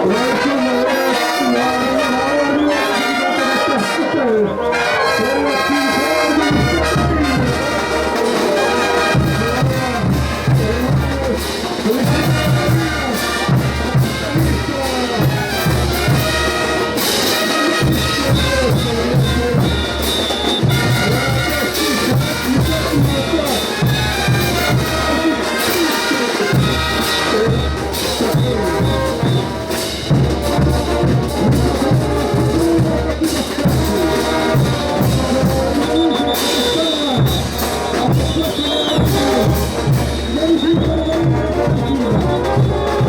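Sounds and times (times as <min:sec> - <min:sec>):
trumpets and trombones: 0:00.0 - 0:43.0
steady drum beat: 0:05.7 - 0:43.0.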